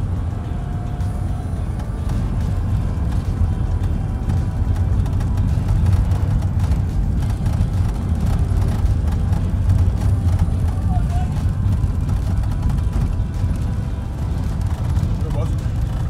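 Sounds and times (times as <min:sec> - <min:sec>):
car cabin rumble: 0:00.0 - 0:16.0
music playing: 0:00.0 - 0:16.0.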